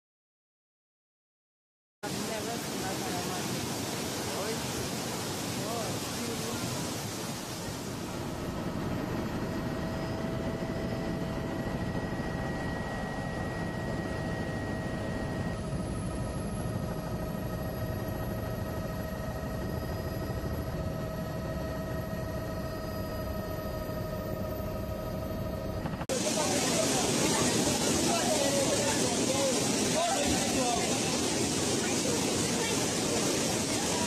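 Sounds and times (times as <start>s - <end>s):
high engine whine: 2.0s - 34.0s
aircraft engine rumble: 2.2s - 34.0s.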